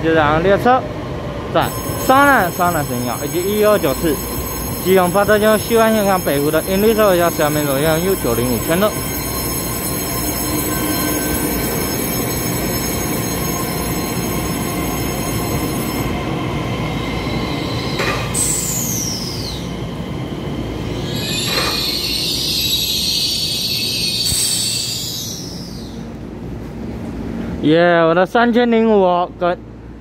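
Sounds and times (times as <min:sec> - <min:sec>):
train rolling rumble: 0:00.0 - 0:28.3
steady high tones: 0:01.6 - 0:25.9
train wheel squeals: 0:01.6 - 0:26.1.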